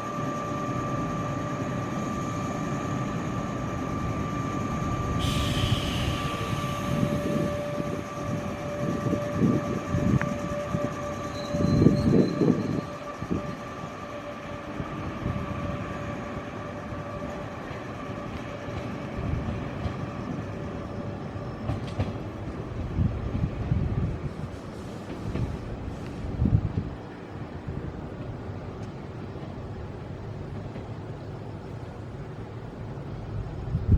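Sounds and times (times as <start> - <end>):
electric train whine: 0.0 - 33.9.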